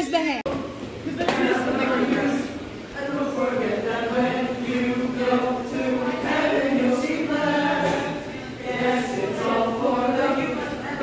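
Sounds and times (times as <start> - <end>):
group of voices singing: 0.9 - 11.0.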